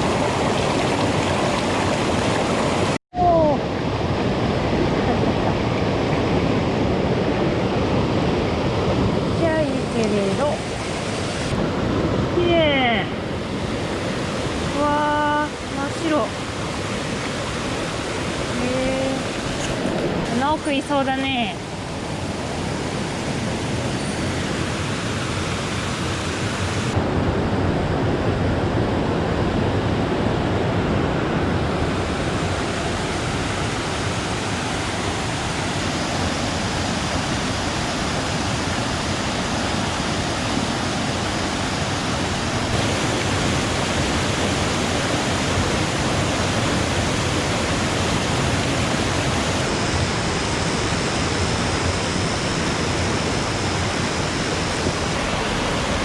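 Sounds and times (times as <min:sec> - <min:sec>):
stream rushing over rocks: 0:00.0 - 0:27.2, 0:30.3 - 0:56.0.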